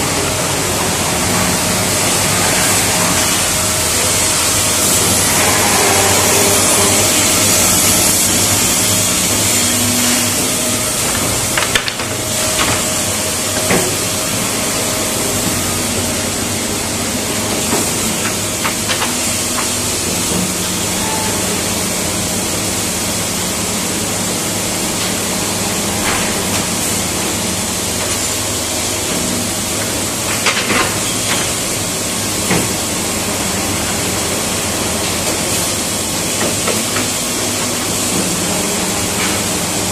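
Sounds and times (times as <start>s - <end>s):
machinery hum: 0.0s - 39.9s.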